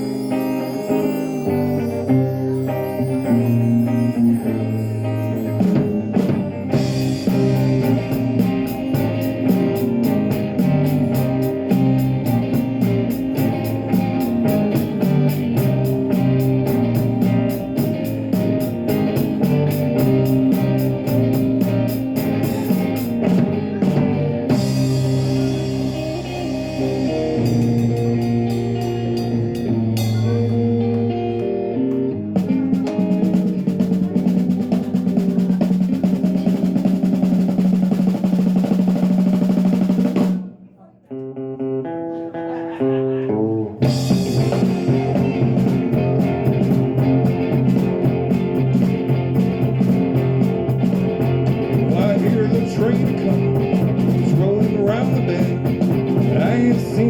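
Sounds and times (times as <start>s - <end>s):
drum kit with busy cymbals: 0.0s - 31.5s, 32.2s - 40.7s, 43.8s - 57.0s
bass: 0.0s - 40.7s, 42.8s - 57.0s
guitar: 0.0s - 57.0s.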